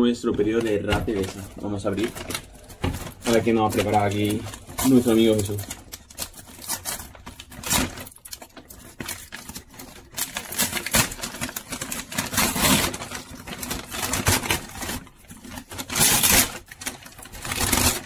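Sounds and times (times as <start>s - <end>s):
paper bag crinkling: 0.0s - 18.0s.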